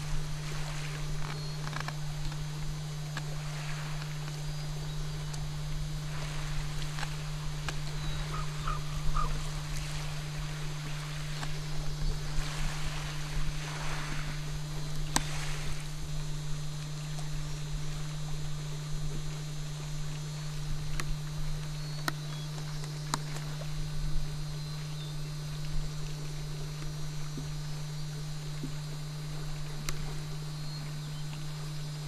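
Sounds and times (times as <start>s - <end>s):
paddle strokes splashing in water: 0.0s - 32.0s
steady low hum: 0.0s - 32.0s.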